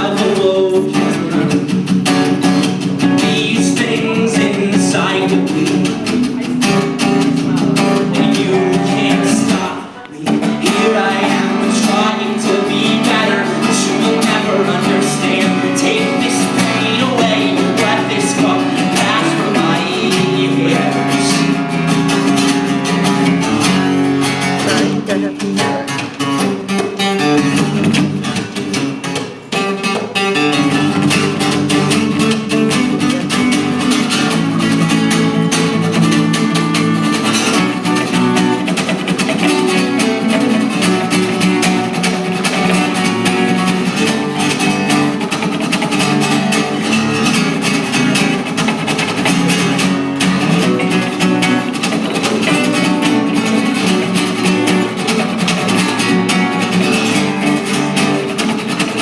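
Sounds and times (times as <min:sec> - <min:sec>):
band playing instrumental: 0:00.0 - 0:59.0
strummed guitar: 0:00.0 - 0:59.0.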